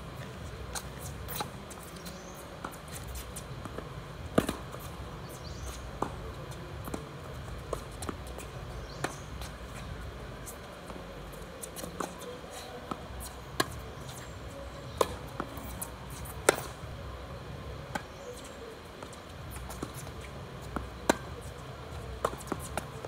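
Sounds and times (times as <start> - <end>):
tennis balls bouncing: 0.2 - 17.2, 17.8 - 23.0
tennis balls struck by rackets: 0.7 - 14.2, 14.9 - 16.8, 17.9 - 23.0.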